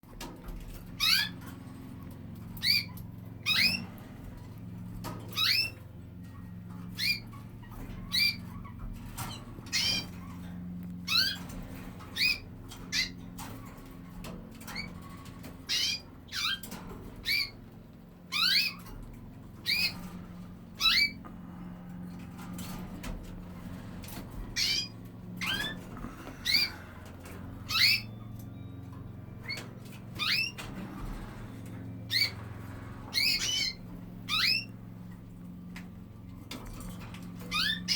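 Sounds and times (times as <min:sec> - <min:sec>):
steady low hum: 0:00.0 - 0:37.9
canaries chirping: 0:00.4 - 0:37.9.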